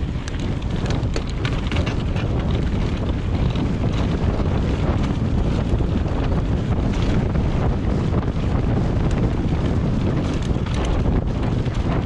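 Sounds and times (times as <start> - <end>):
bike rattling clicks and knocks: 0.0 - 12.0
tyres on loose dirt and rocks: 0.0 - 12.0
wind rushing over microphone: 0.0 - 12.0.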